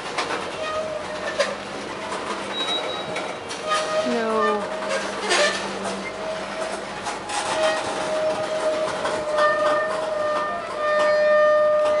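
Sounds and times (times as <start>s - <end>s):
freight train rolling past: 0.0s - 12.0s
wheels clicking over rail joints: 0.0s - 12.0s.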